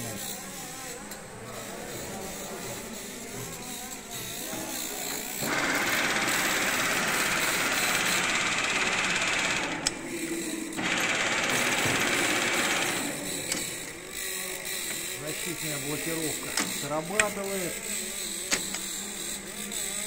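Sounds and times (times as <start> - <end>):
lathe carriage running: 3.0 - 20.0.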